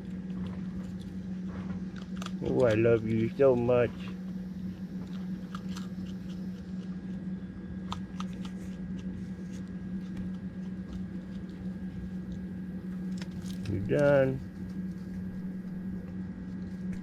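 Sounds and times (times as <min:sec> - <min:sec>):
raccoon chewing crunches: 0:00.0 - 0:17.0
steady low hum: 0:00.0 - 0:17.0.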